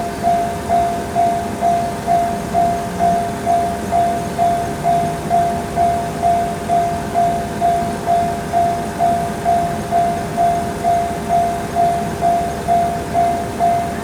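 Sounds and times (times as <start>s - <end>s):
level crossing alarm ringing: 0.0s - 14.0s.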